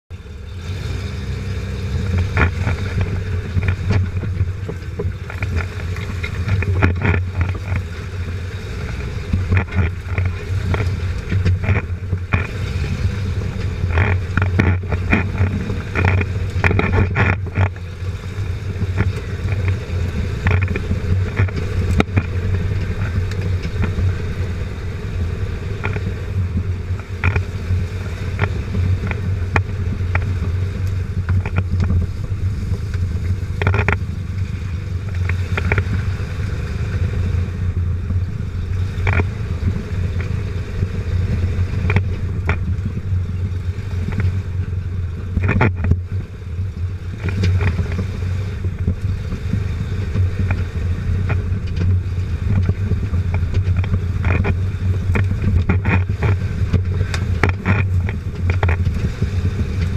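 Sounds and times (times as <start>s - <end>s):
engine and drivetrain drone: 0.0s - 59.9s
underbody knocks and rattles: 1.9s - 24.6s, 25.8s - 37.1s, 37.8s - 46.1s, 47.1s - 59.9s.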